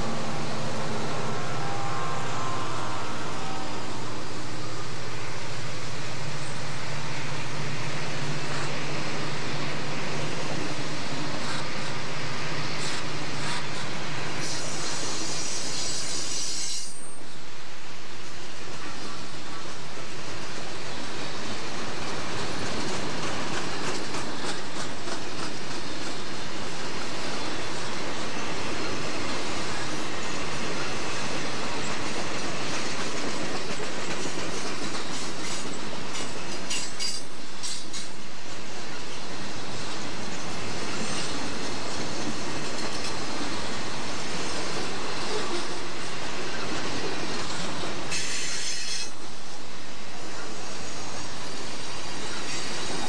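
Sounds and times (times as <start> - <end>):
freight cars rumbling on rails: 0.0 - 16.0, 18.5 - 49.5.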